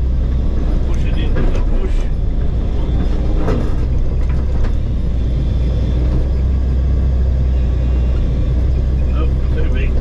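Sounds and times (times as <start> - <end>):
diesel engine drone: 0.0 - 10.0.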